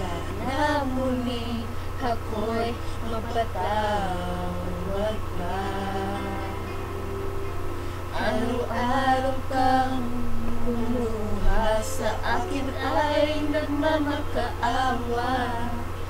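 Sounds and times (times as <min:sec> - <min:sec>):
women singing a ballad: 0:00.0 - 0:07.0, 0:07.8 - 0:16.0
low electrical hum: 0:00.0 - 0:16.0
recorded backing music: 0:00.0 - 0:16.0.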